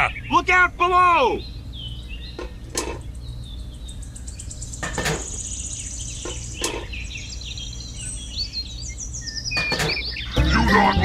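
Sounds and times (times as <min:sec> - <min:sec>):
birds chirping: 0:00.0 - 0:11.0
low background hum: 0:00.0 - 0:11.0.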